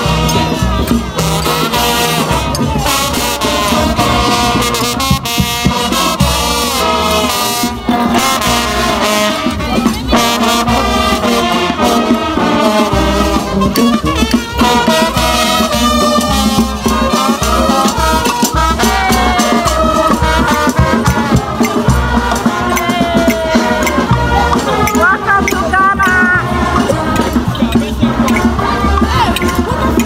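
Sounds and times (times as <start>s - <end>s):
marching brass band playing: 0.0s - 30.0s.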